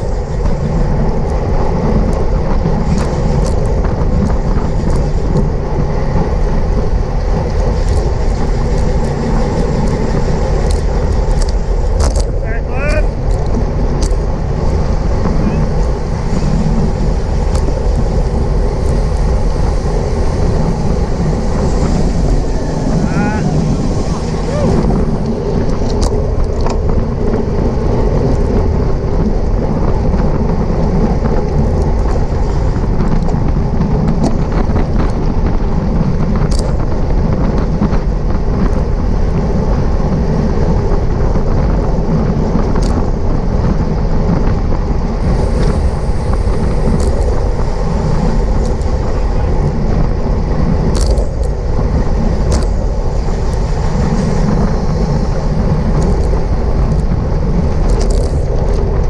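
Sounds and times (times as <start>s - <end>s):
road noise: 0.0s - 59.0s
wind rushing on microphone: 0.0s - 59.0s.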